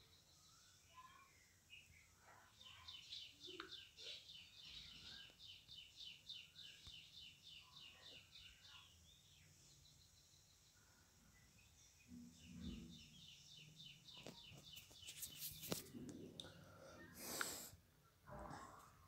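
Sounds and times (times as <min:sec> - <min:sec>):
faint bird chirping: 0:00.0 - 0:19.0.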